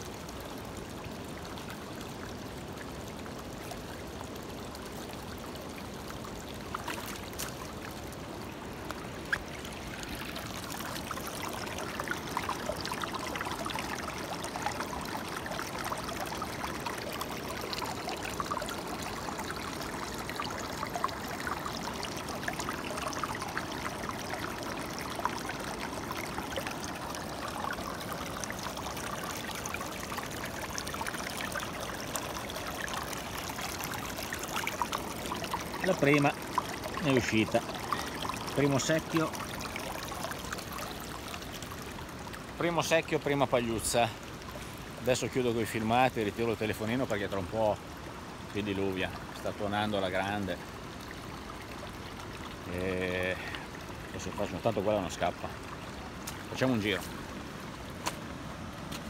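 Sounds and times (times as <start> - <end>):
water rushing over sluice box: 0.0 - 59.0.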